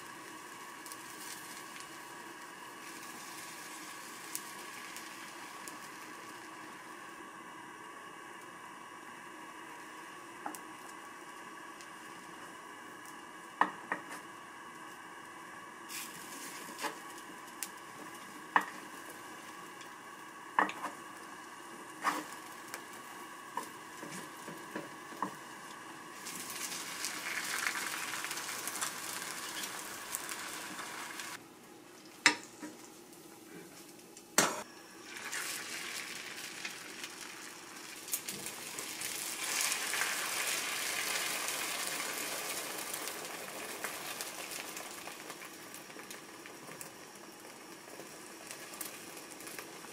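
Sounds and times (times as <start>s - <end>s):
food sizzling in a pan: 0.0s - 31.4s, 32.0s - 49.9s.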